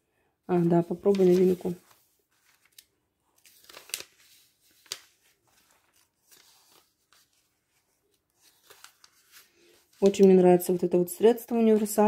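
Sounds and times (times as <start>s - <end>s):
paper pages rustling: 0.6s - 12.0s.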